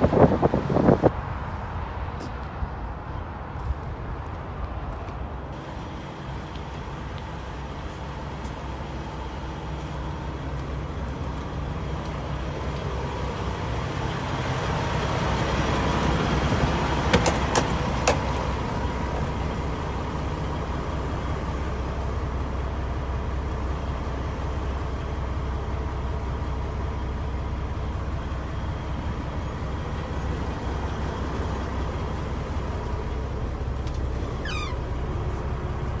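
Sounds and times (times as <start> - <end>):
diesel truck idling: 0.0 - 36.0.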